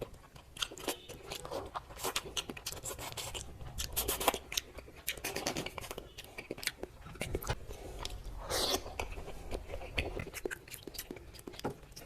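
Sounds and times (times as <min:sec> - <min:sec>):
crunchy eating: 0:00.0 - 0:12.0.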